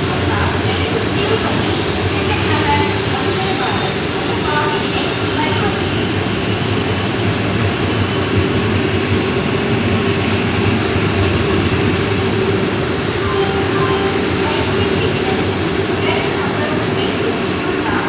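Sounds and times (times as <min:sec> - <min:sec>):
train running: 0:00.0 - 0:18.0.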